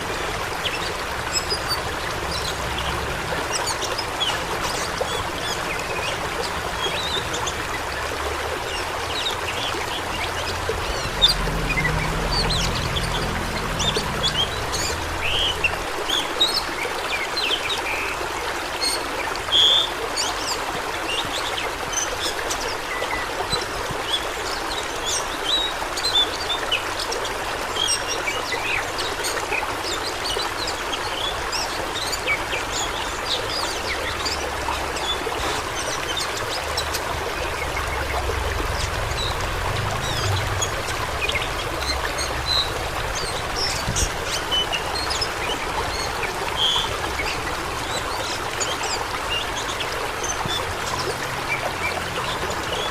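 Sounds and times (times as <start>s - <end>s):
water rushing and babbling: 0.0s - 52.9s.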